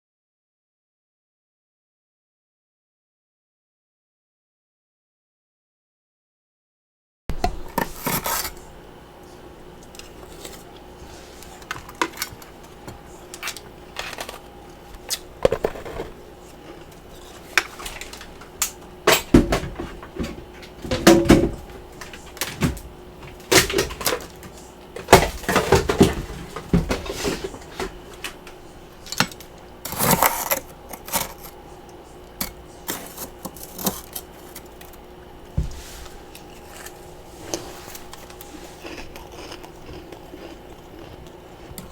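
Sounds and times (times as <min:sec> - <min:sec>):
faint steady hum: 0:07.3 - 0:41.9.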